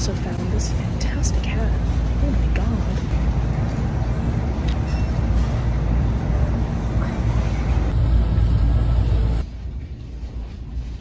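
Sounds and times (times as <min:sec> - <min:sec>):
loud low rumble: 0:00.7 - 0:10.8.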